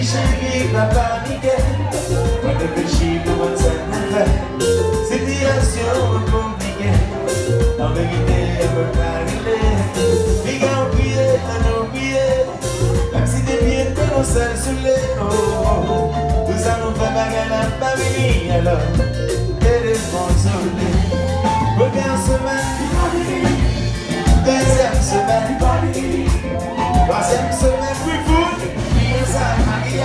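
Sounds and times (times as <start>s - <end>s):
lead vocal singing: 0.0s - 30.0s
live band playing: 0.0s - 30.0s.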